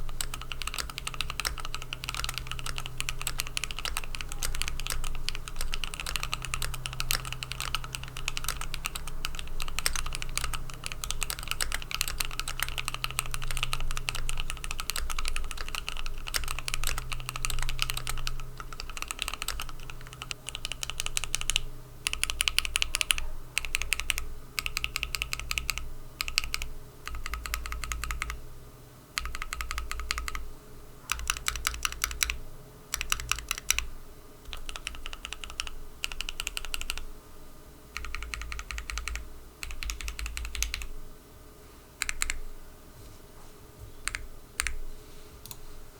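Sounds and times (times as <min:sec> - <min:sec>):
mechanical keyboard typing: 0:00.0 - 0:28.4, 0:29.2 - 0:30.5, 0:31.1 - 0:37.1, 0:37.9 - 0:40.9, 0:42.0 - 0:42.4, 0:44.0 - 0:44.8.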